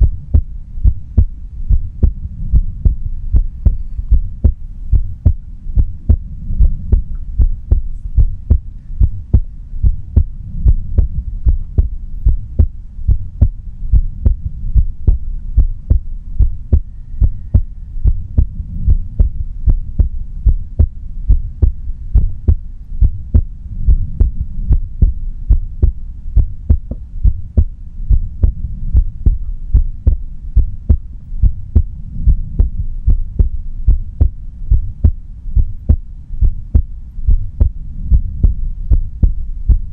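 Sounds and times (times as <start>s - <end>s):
heartbeat thudding: 0.0s - 39.9s.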